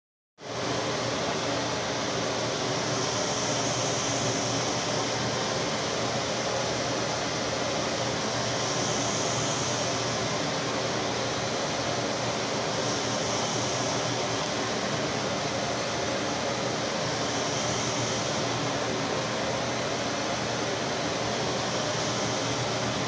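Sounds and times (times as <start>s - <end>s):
steady rushing air noise: 0.5s - 23.0s.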